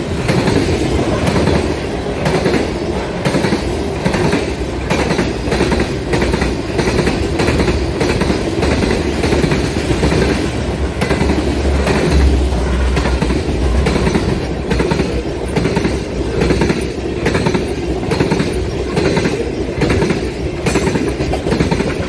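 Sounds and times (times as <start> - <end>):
freight train wheels rumbling: 0.0 - 22.0
wheels clicking over rail joints: 0.0 - 22.0.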